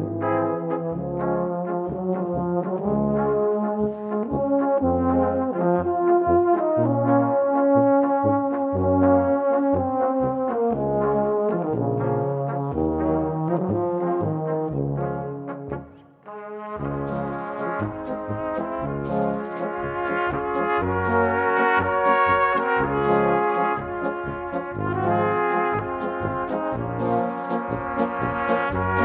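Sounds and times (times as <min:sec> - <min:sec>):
brass ensemble music: 0:00.0 - 0:29.0.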